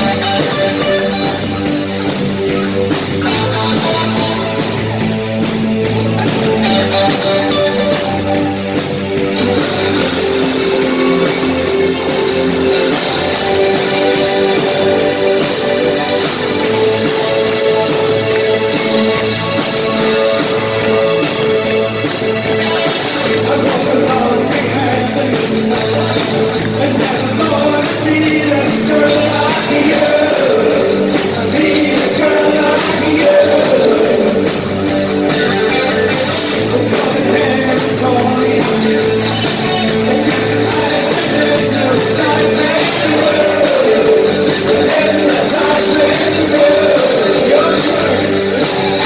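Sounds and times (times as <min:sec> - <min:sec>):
guitar: 0:00.0 - 0:49.0
person singing: 0:00.0 - 0:49.0
rock band playing loudly: 0:00.0 - 0:49.0.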